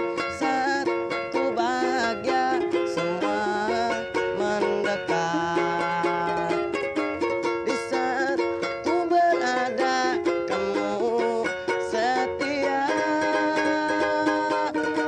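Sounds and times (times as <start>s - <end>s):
person singing: 0.0s - 15.0s
ukulele strumming: 0.0s - 15.0s.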